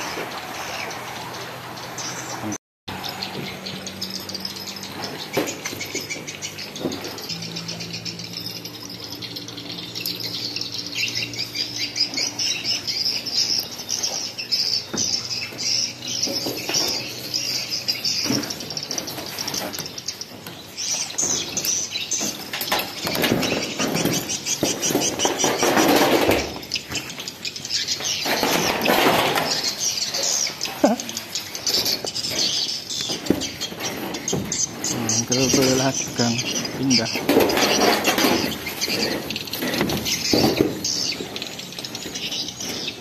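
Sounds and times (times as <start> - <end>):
birds chirping and twittering: 0.0 - 43.0.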